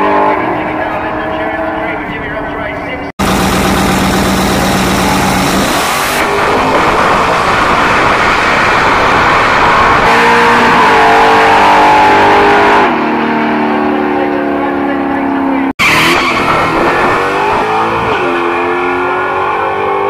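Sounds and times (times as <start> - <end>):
car engines at full throttle: 0.0 - 20.0.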